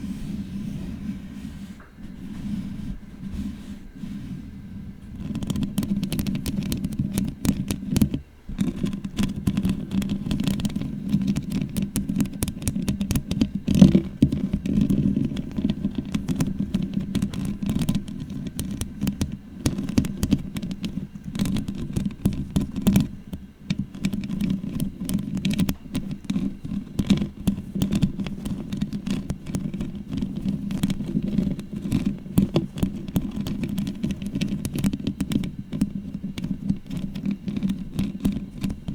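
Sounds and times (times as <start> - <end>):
fingernails scratching microphone: 0.0 - 38.9.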